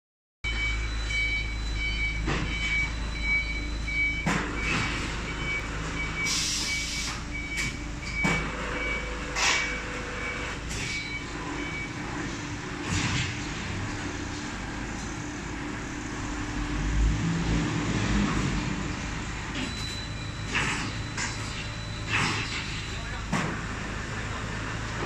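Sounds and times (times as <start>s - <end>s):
machinery humming: 0.5s - 25.0s.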